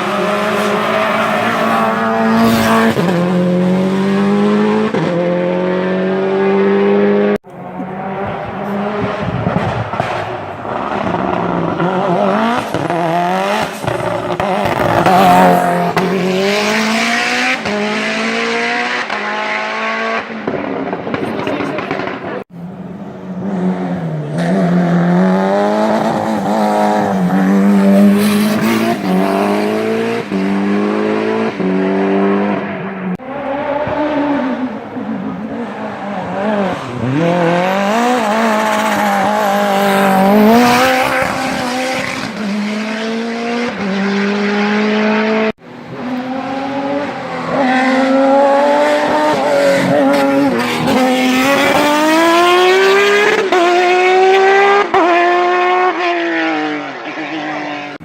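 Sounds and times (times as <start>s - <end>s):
race car engines at full throttle: 0.0s - 58.0s.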